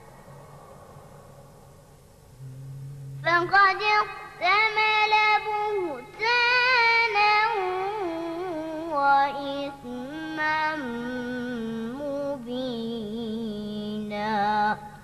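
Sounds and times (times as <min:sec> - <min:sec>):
boy reciting melodically: 0:02.5 - 0:15.0.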